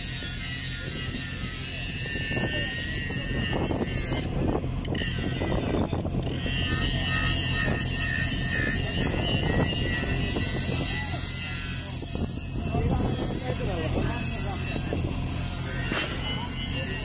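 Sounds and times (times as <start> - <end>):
high whine: 0.0 - 17.0
machinery engine drone: 0.0 - 17.0.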